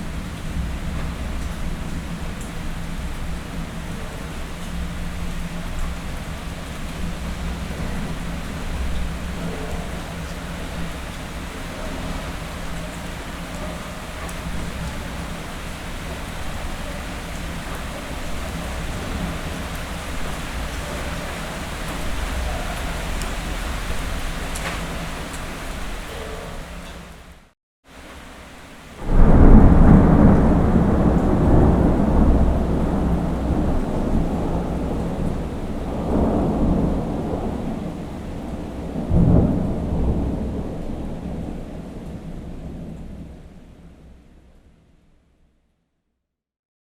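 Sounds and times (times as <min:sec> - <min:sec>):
thunder rumbling: 0:00.0 - 0:27.2, 0:28.8 - 0:44.3
heavy rain hissing: 0:00.0 - 0:40.4.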